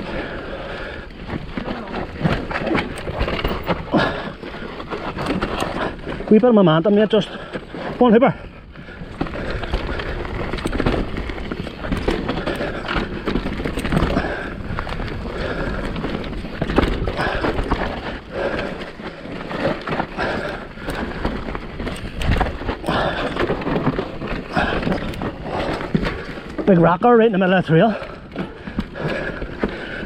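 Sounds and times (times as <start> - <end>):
bike chain and frame clattering: 0.0 - 30.0
bike tyres rattling over rocks: 0.0 - 30.0.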